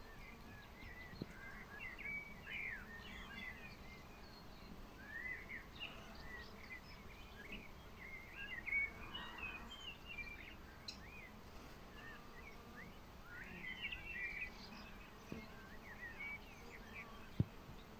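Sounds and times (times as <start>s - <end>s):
faint outdoor hiss: 0.0s - 17.9s
small birds chirping: 0.0s - 17.9s.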